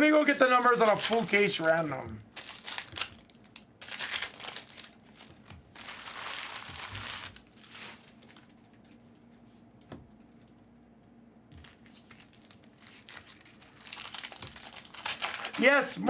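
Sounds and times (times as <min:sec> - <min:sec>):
plastic wrappers crinkling: 0:00.0 - 0:09.3, 0:11.5 - 0:16.0.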